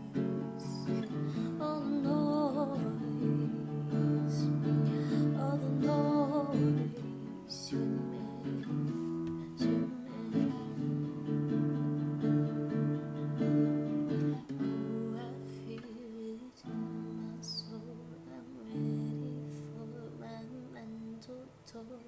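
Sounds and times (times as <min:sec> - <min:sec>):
person singing: 0:00.0 - 0:11.7, 0:14.1 - 0:22.0
strummed acoustic guitar: 0:00.0 - 0:20.9.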